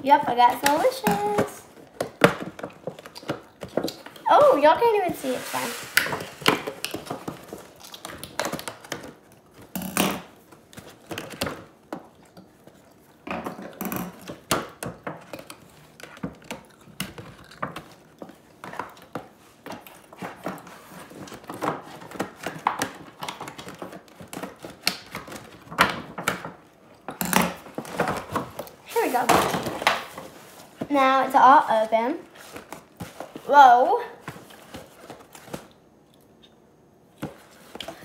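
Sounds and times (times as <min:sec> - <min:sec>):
packaging crinkling and rustling: 0:00.2 - 0:35.9.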